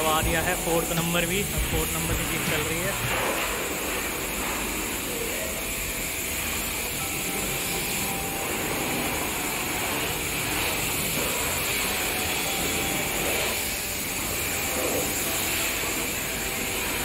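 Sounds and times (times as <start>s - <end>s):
high-pressure water jet spraying: 0.0s - 17.0s.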